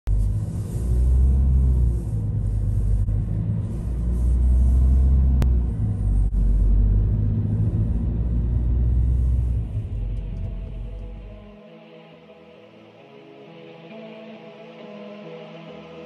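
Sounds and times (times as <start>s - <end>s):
music with deep droning bass: 0.1s - 16.0s.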